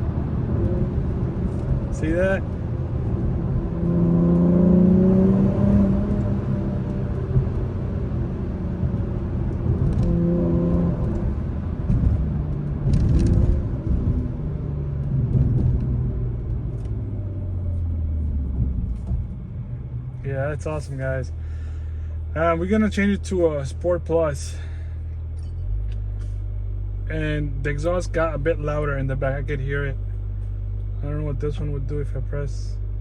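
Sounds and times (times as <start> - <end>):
car engine from inside cabin: 0.0 - 33.0
road rumble: 0.0 - 33.0.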